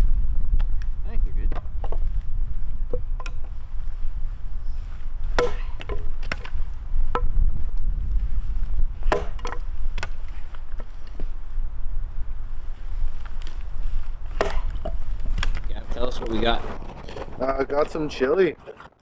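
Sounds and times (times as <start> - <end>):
axe chopping firewood: 2.9 - 7.4, 8.0 - 19.0.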